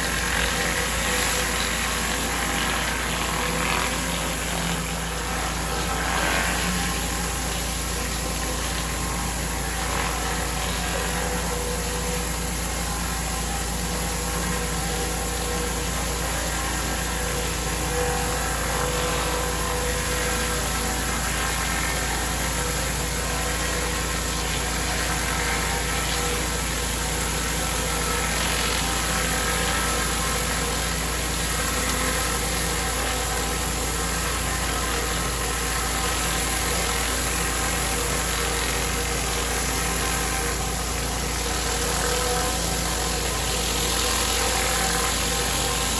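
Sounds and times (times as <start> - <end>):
pressure washer engine running: 0.0 - 45.9.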